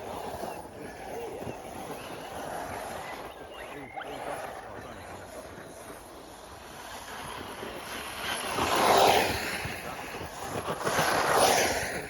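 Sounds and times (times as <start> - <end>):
electric rc truck passing: 0.0 - 12.0.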